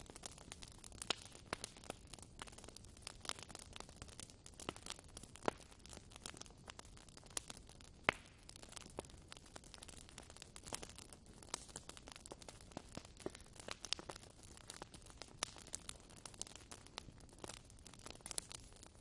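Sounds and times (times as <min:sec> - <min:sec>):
fire pops and snaps: 0:00.0 - 0:19.0
wood fire crackling: 0:00.0 - 0:19.0.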